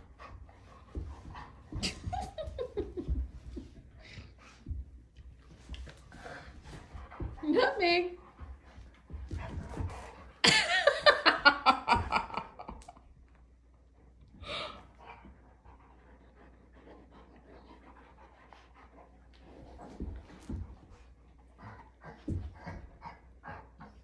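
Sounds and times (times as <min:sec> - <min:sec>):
dog panting: 0:00.0 - 0:10.5, 0:14.4 - 0:24.0.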